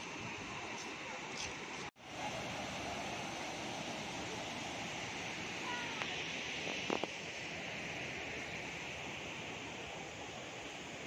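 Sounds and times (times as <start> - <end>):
river water pouring down cascades: 0.0 - 11.0.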